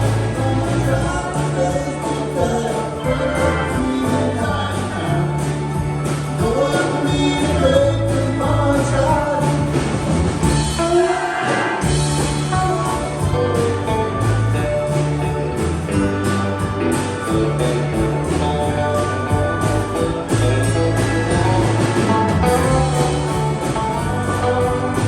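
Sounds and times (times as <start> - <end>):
person singing: 0.0 - 15.3, 17.2 - 25.0
steady drum beat: 0.0 - 25.0
sustained bass notes: 0.0 - 25.0.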